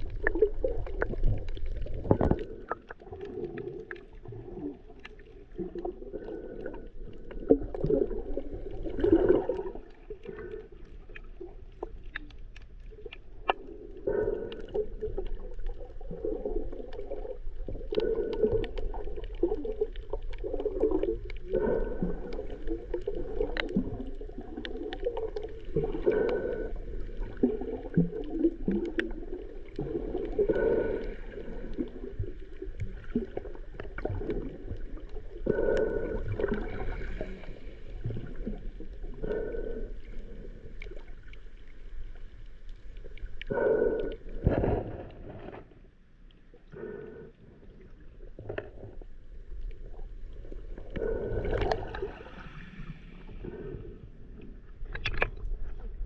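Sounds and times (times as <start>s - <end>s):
underwater gurgling and bubbling: 0.0s - 56.0s.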